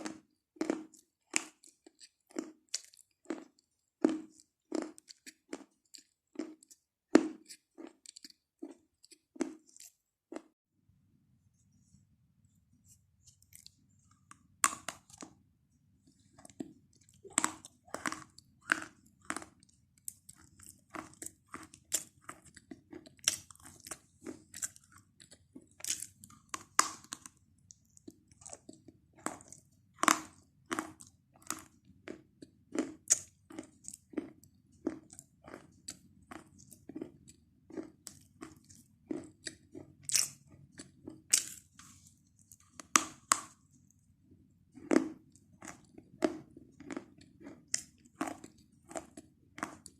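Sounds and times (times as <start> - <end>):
soft chewing: 0.0 - 10.6, 11.6 - 49.9.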